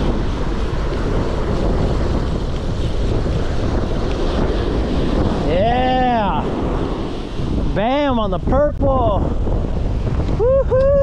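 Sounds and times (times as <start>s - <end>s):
ocean surf washing: 0.0s - 11.0s
wind buffeting microphone: 0.0s - 11.0s.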